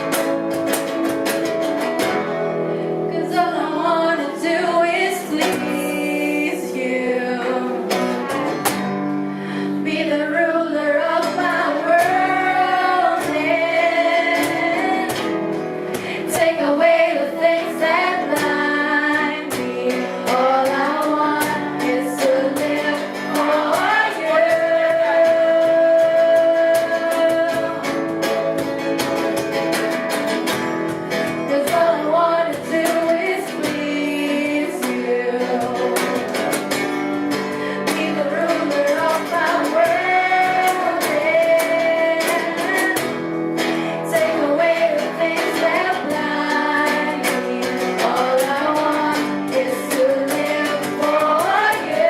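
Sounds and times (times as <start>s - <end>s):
guitar accompaniment: 0.0s - 52.0s
woman singing: 3.0s - 8.4s, 9.6s - 28.3s, 31.3s - 36.7s, 37.6s - 52.0s.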